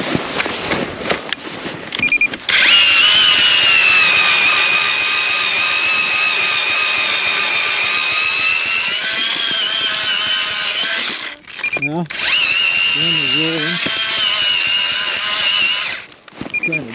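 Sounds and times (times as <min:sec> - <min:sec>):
ice auger whining: 0:02.0 - 0:16.8.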